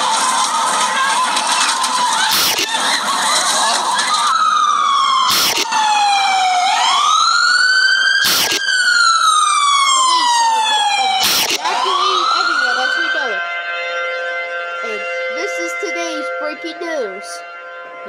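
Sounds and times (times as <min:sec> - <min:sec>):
crowd noise: 0:00.0 - 0:17.4
siren wailing: 0:00.0 - 0:18.0.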